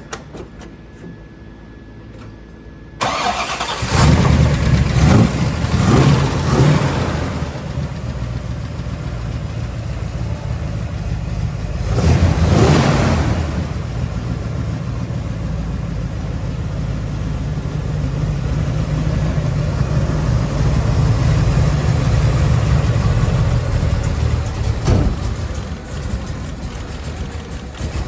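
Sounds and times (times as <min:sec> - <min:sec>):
car engine revving and idling: 0:03.0 - 0:28.0.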